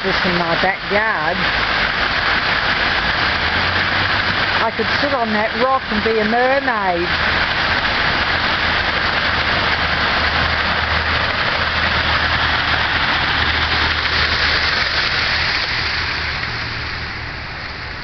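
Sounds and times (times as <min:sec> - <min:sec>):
waterfall rushing loudly: 0:00.0 - 0:18.0.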